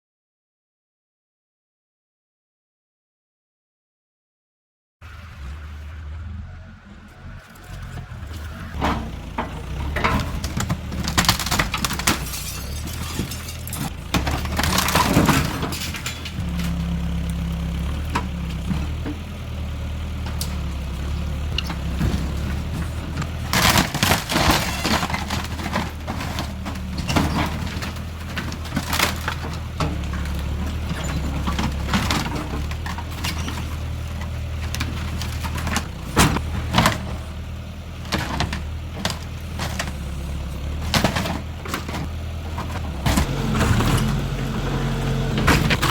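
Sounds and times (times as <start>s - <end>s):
backhoe engine running: 5.0s - 45.9s
structure crashing and cracking: 5.1s - 45.9s.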